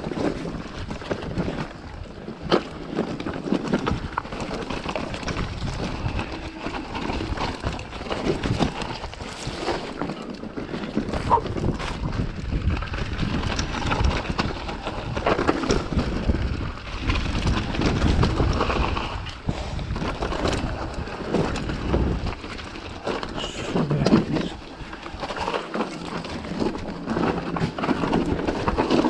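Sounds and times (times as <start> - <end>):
wind on microphone: 0.0 - 25.6
bike rattling: 0.0 - 29.0
tyres rolling over loose stones: 0.0 - 29.0.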